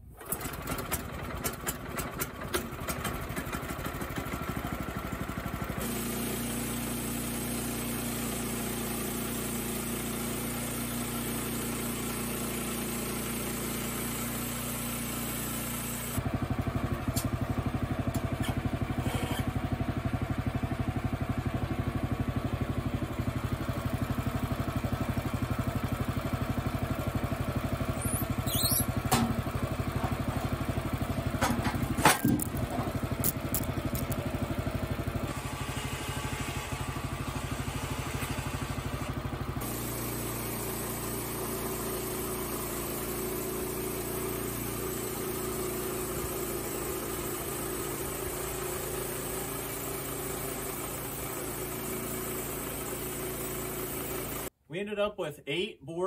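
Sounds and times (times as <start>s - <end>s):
small gas engine running: 0.0s - 54.6s.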